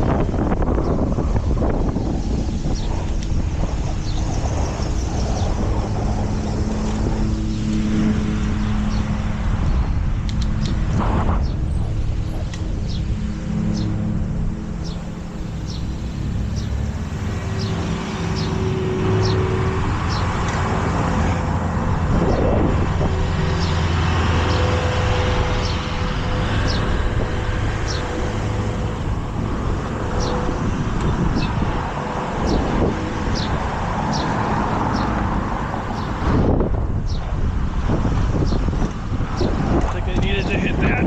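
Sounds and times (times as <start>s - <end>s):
road traffic: 0.0s - 41.0s
wind rushing over microphone: 0.0s - 41.0s.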